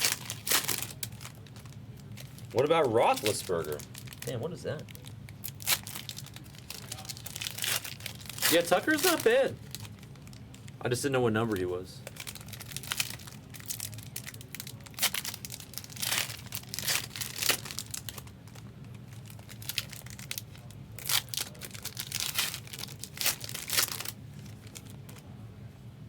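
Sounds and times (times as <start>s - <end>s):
wrapping crinkled and torn: 0.0s - 10.8s, 12.0s - 25.2s
steady low hum: 0.0s - 26.0s.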